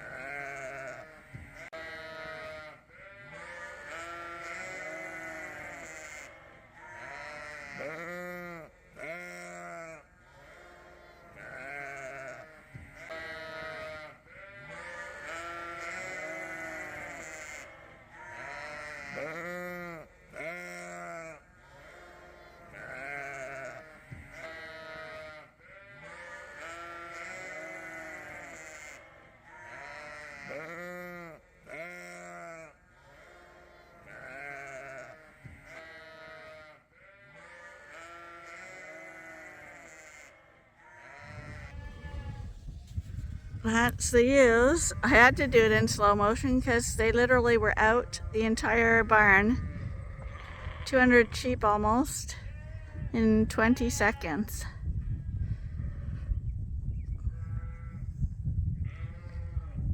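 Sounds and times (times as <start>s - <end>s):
sheep bleating: 0.0s - 42.5s, 43.7s - 54.7s.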